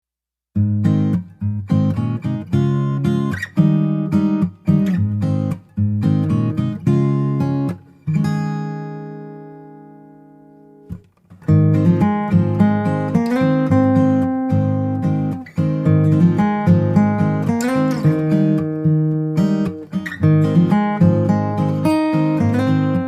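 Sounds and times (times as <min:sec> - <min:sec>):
acoustic guitar strumming: 0:00.6 - 0:23.0.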